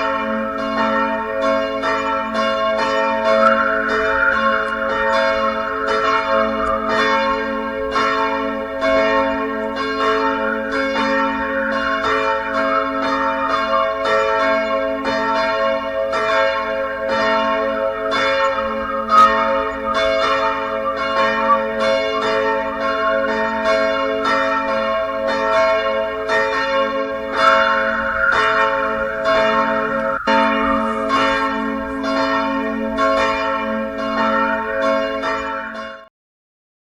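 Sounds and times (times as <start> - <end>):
church bells ringing: 0.0 - 36.1.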